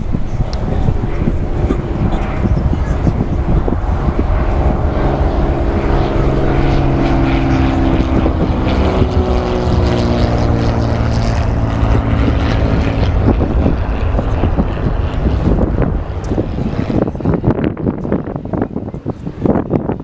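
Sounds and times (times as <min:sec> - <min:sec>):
propeller airplane engine droning: 0:00.0 - 0:20.0
wind buffeting microphone: 0:00.0 - 0:20.0.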